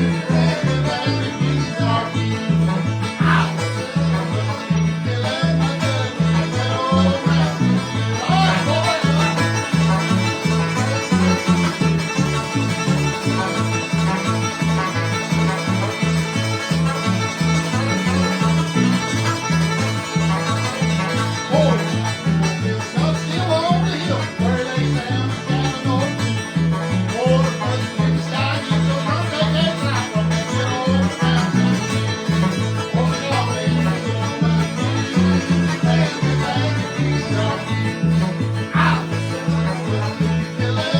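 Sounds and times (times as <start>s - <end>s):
acoustic guitar bass notes: 0.0s - 40.9s
fast banjo picking: 0.0s - 40.9s.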